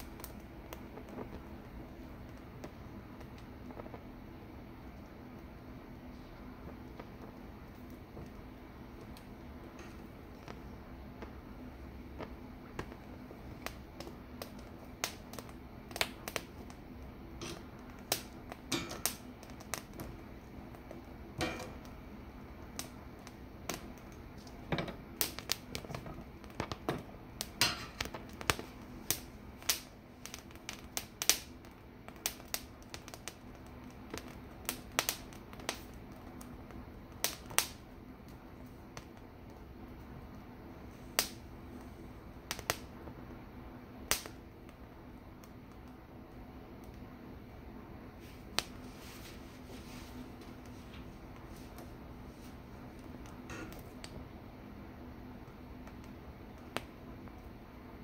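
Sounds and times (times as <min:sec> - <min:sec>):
pepper skins crackling and popping: 0:00.0 - 0:47.2, 0:48.2 - 0:58.0
gas burner flame: 0:00.0 - 0:58.0.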